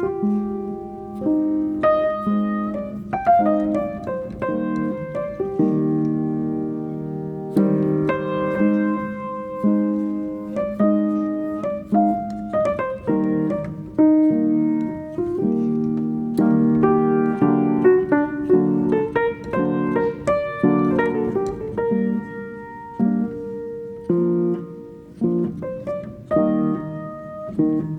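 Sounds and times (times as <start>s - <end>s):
solo piano: 0.0s - 27.9s.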